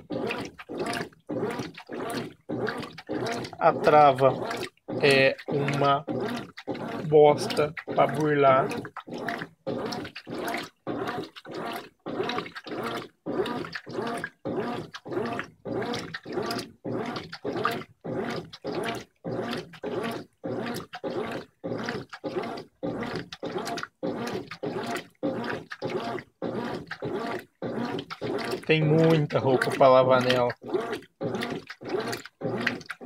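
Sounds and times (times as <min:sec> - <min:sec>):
washing machine churning water: 0:00.0 - 0:33.0.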